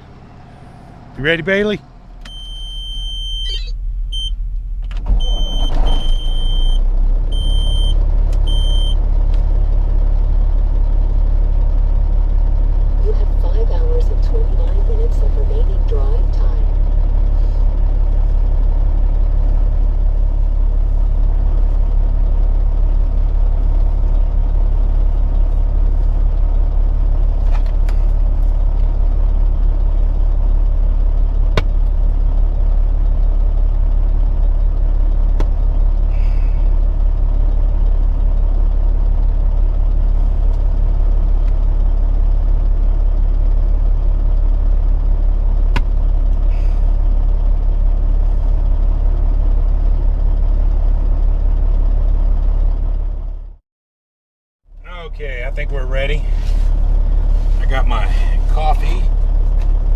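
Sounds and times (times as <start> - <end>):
truck diesel engine idling: 0.0 - 53.6, 54.7 - 59.9.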